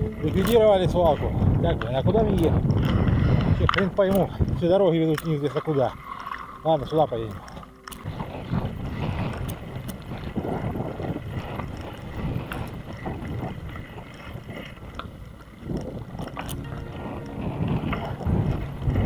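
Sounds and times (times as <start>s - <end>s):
wind buffeting microphone: 0.0s - 6.0s, 6.8s - 19.0s.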